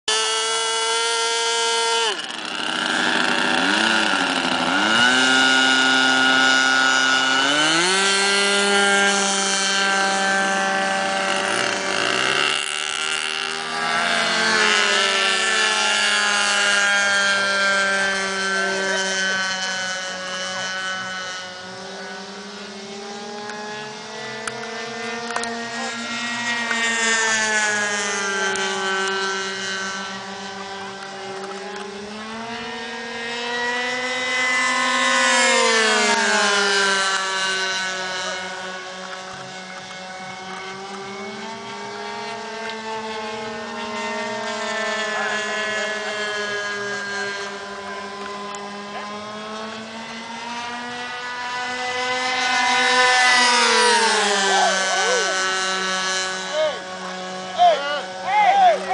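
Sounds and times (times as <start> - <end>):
model airplane engines buzzing: 0.0 - 58.9.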